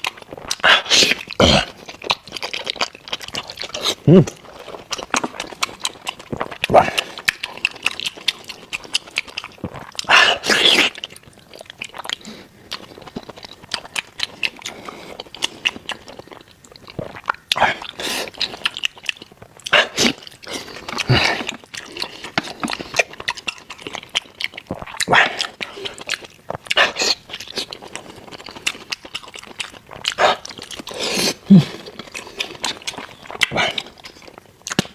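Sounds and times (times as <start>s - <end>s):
chewing meat: 0.0s - 34.9s.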